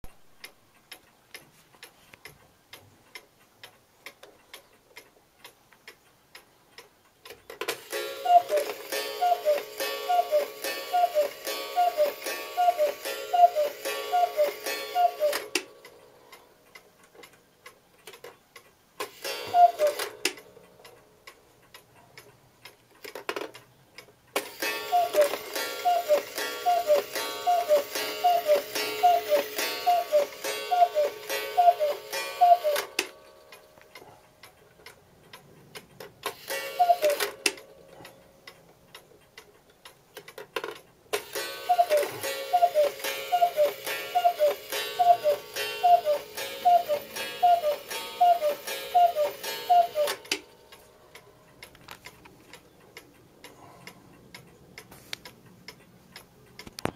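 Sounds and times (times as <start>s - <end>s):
clock ticking: 0.0s - 56.9s
cuckoo clock calling: 5.9s - 21.8s, 24.0s - 35.4s, 36.2s - 55.0s.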